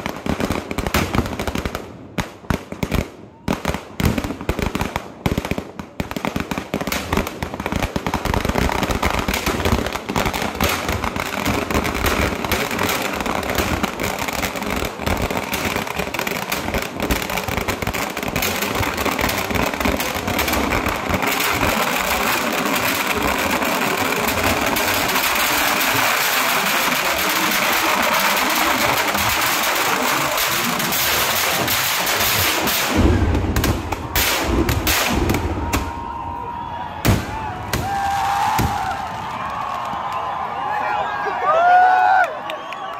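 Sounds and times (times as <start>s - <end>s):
firecracker blasts: 0.0s - 40.7s.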